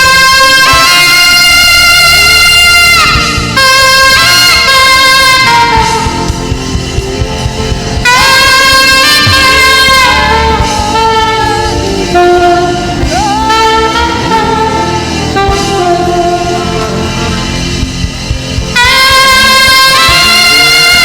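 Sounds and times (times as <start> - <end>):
backing band: 0.0 - 21.0
saxophone playing gospel melody: 0.0 - 21.0.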